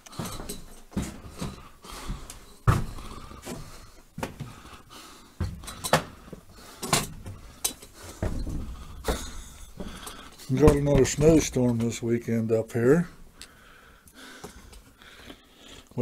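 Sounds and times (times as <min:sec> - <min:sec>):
footsteps on porch: 0:00.0 - 0:13.4.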